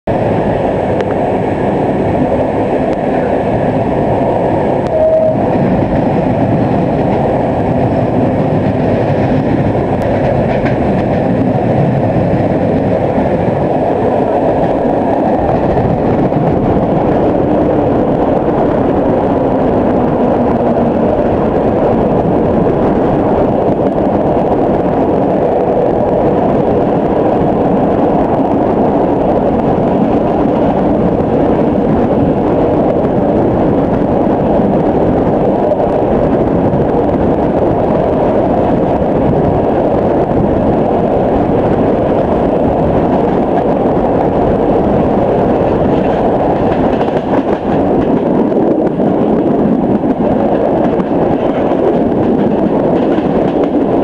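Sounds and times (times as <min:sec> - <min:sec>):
rushing air: 0:00.0 - 0:54.0
train wheels rumbling on rails: 0:00.0 - 0:54.0.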